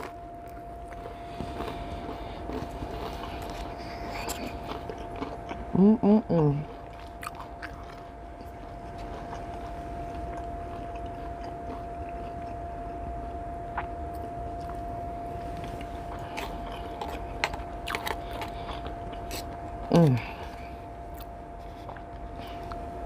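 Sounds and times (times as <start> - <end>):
person chewing food: 0.0 - 23.0
thin steady hum: 0.0 - 23.0.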